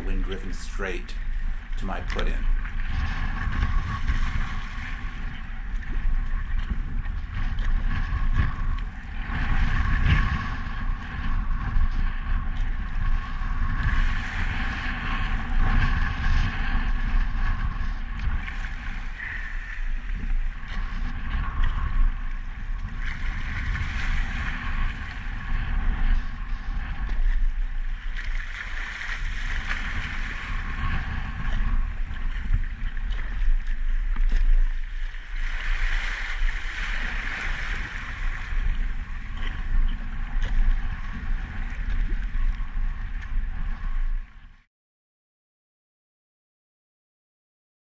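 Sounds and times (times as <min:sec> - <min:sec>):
water splashing against kayak hull: 0:00.0 - 0:44.3
wind on microphone: 0:00.0 - 0:44.7.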